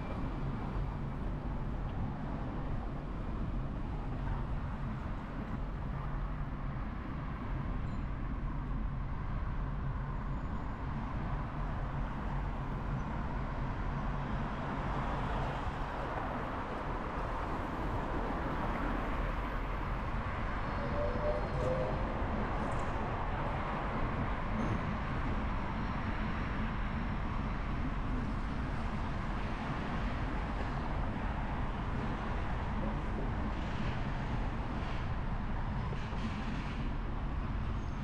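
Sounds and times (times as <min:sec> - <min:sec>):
rushing road noise: 0:00.0 - 0:38.0.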